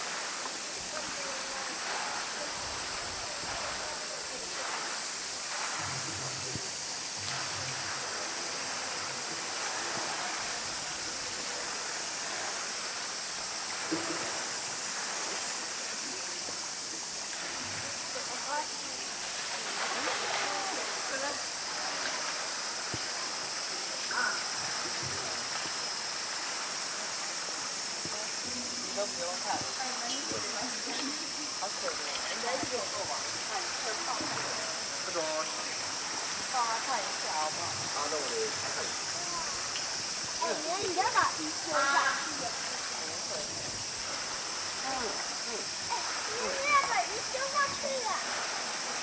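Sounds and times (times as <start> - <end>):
faint voices: 0.0 - 49.0
water splashing over rock: 0.0 - 49.0.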